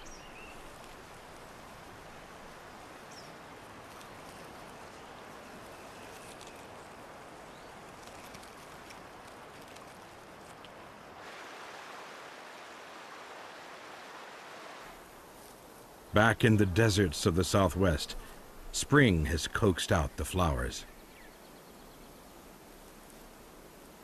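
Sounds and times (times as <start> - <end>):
outdoor ambience hiss: 0.0 - 24.0.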